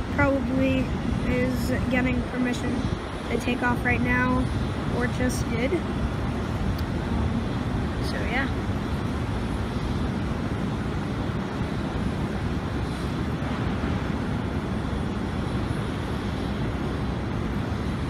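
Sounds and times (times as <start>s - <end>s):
airport ambience low rumble: 0.0s - 18.0s.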